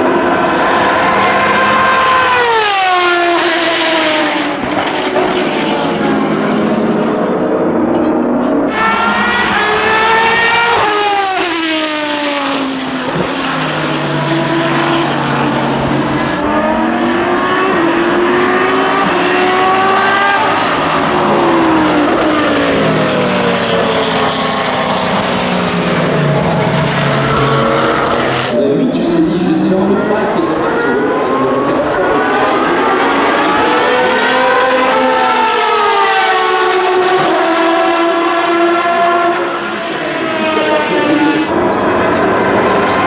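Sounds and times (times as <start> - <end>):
racing engine at speed: 0.0 - 43.0.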